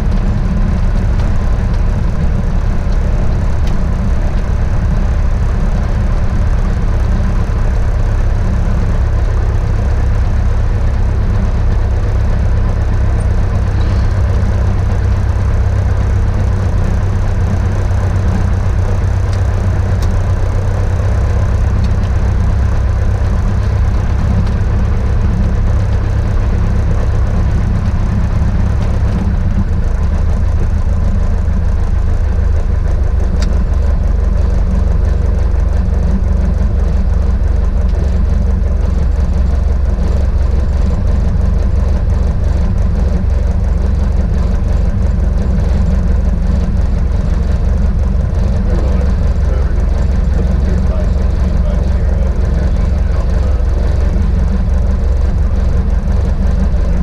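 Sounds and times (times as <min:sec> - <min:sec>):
aircraft piston engine droning: 0:00.0 - 0:57.0.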